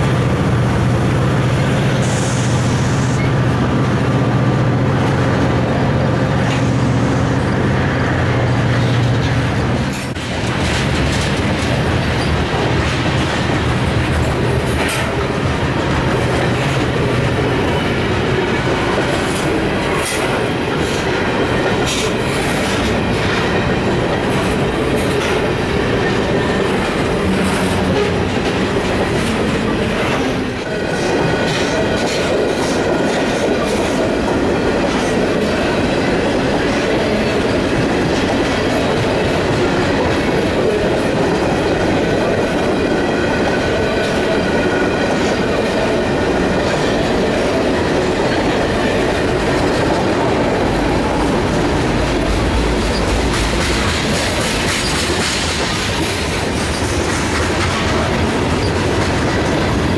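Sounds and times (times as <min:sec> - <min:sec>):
train wheels rumbling on rail: 0:00.0 - 0:59.9
clacks over rail joints: 0:08.6 - 0:59.9.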